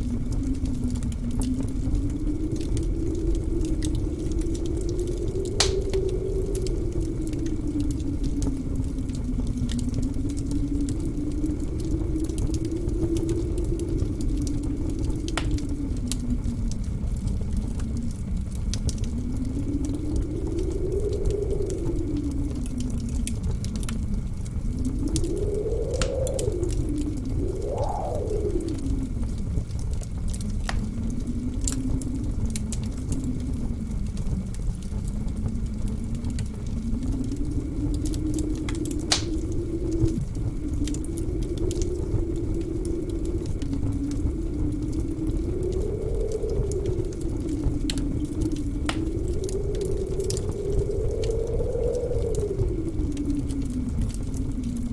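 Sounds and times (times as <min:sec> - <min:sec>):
blizzard wind howling: 0:00.0 - 0:54.9
wood fire crackling and popping: 0:00.0 - 0:54.9.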